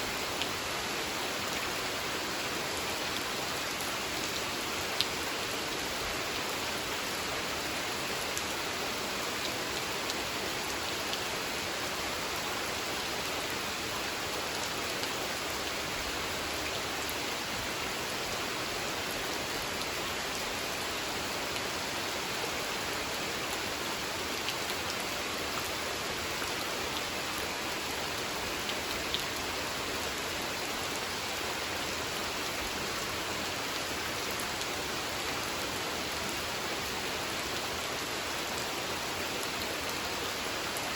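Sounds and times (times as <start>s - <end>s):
rain falling on a pond: 0.0s - 40.9s.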